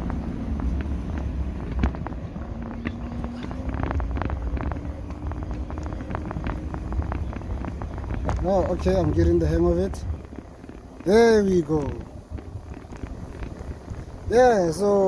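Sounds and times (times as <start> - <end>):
small clicks and rattles: 0.0 - 14.3
wind rumbling on microphone: 0.0 - 15.0.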